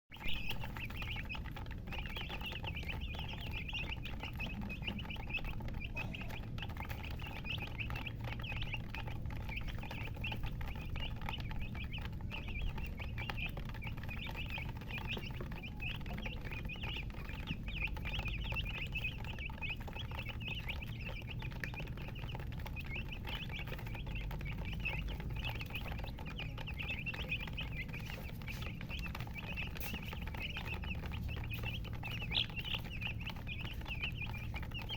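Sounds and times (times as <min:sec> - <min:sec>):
chicks chirping: 0:00.1 - 0:34.9
steady low hum: 0:00.1 - 0:34.9.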